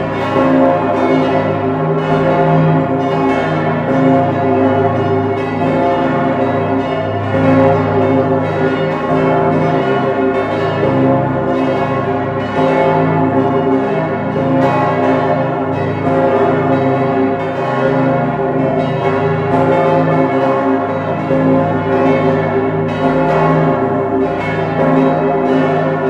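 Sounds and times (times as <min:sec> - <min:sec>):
church bells ringing: 0:00.0 - 0:26.0
low hum of big bells: 0:00.0 - 0:26.0.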